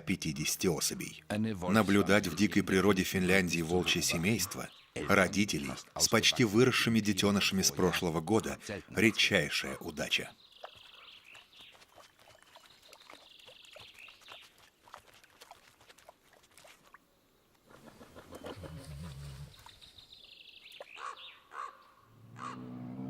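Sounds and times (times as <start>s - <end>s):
small birds chirping: 1.1s - 15.0s, 17.4s - 22.6s.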